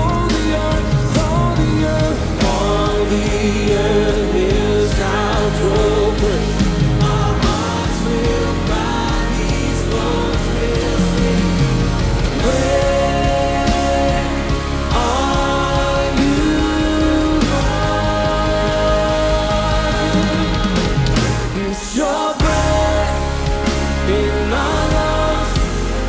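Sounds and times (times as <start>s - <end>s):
person singing: 0.0s - 26.0s
worship band playing: 0.0s - 26.0s.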